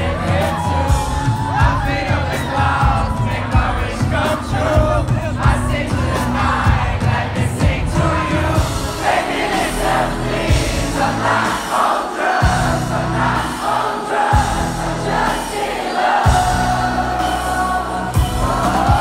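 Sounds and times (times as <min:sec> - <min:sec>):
band playing: 0:00.0 - 0:19.0
crowd singing along: 0:00.0 - 0:19.0.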